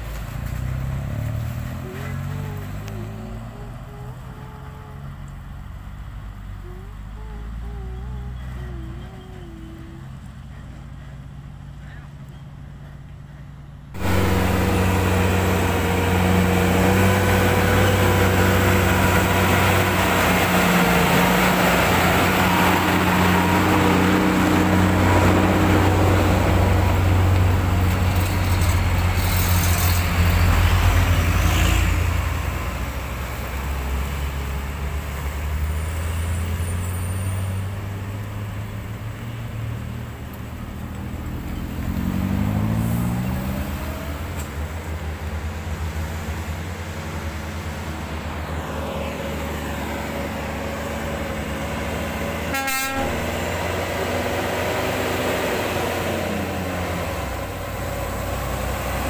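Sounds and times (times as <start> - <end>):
diesel truck engine running: 0.0 - 59.0
engine approaching: 0.0 - 59.0
road traffic: 0.0 - 59.0.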